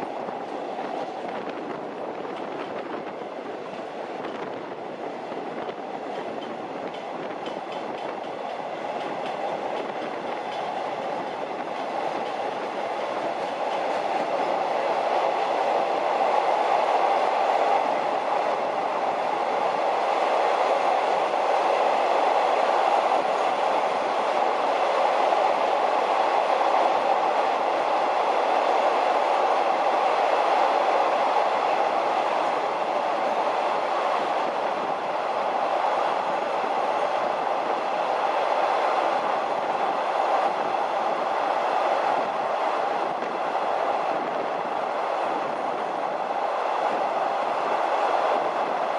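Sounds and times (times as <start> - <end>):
train rumbling on rails: 0.0 - 48.9.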